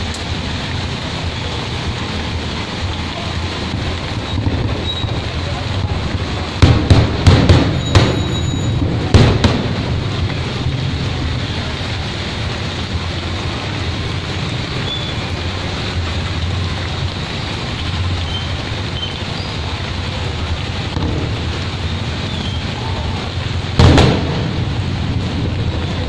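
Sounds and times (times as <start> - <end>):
heavy rain on wet street: 0.0 - 26.0
passing traffic rumble: 0.0 - 26.0.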